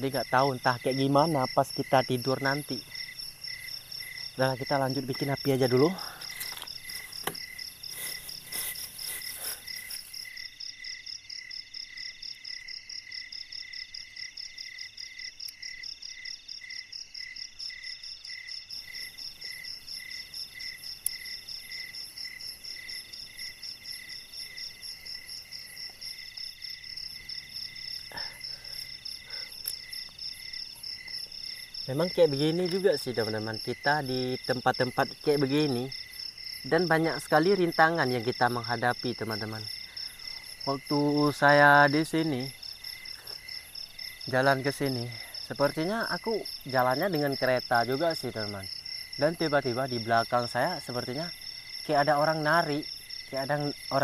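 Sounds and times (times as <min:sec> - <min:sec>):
crickets and insects chirping: 0:00.0 - 0:54.0.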